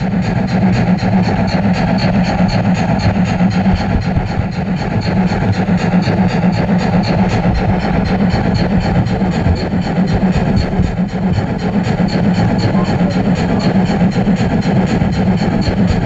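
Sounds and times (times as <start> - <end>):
even ticking: 0.0 - 16.0
model train motor hum: 0.0 - 16.0.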